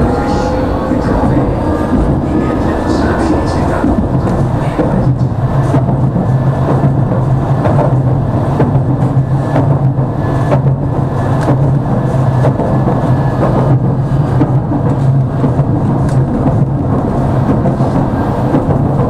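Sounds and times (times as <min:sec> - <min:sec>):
tram motor and wheel hum: 0:00.0 - 0:19.0.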